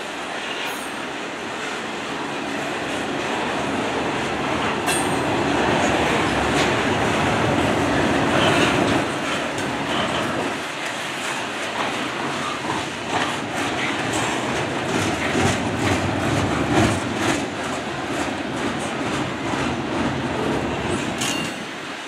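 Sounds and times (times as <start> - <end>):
freight train rumbling and rattling: 0.0 - 22.0.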